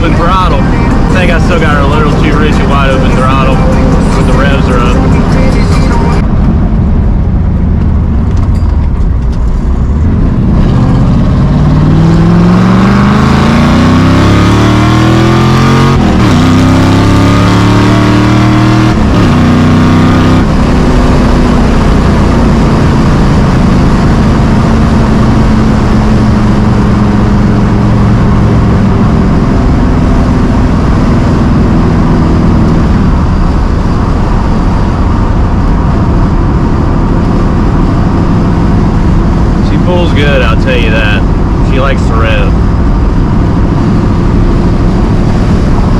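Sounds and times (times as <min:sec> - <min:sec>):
car engine accelerating hard: 0:00.0 - 0:45.9.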